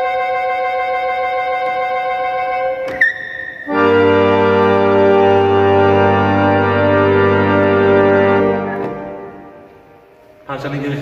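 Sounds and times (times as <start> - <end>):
reed organ chord: 0.0 - 10.1.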